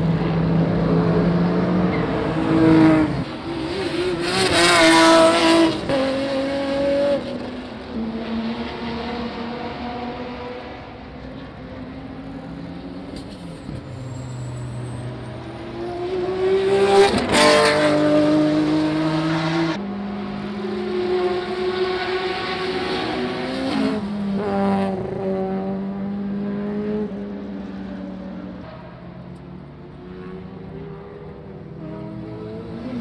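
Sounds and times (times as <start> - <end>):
racing car engines: 0.0 - 33.0.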